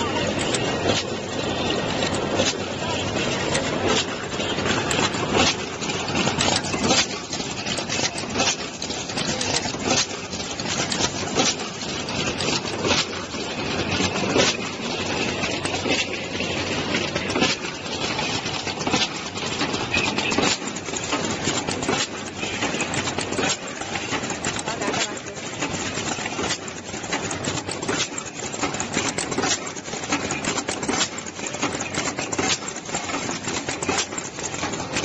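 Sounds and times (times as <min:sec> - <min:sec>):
crimping machine running: 0:00.0 - 0:35.0
sharp mechanical clicks and clacks: 0:00.0 - 0:35.0.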